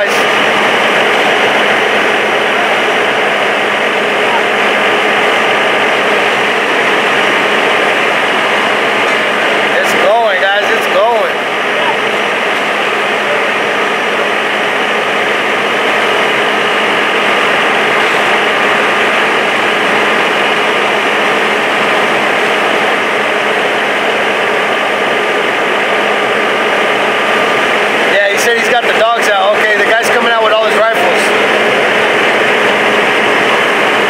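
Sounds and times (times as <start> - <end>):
engine running with hiss: 0.0 - 34.0.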